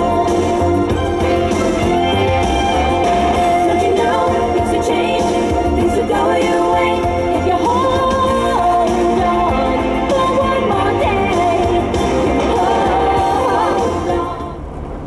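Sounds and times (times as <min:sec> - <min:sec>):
song with singing voice: 0:00.0 - 0:14.9.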